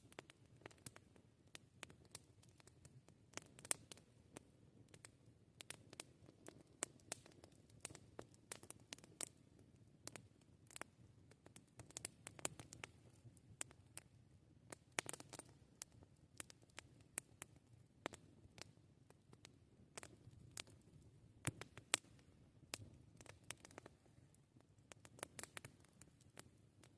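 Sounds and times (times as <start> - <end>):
campfire crackling and popping: 0.0 - 26.9
low murmur of burning: 0.0 - 26.9.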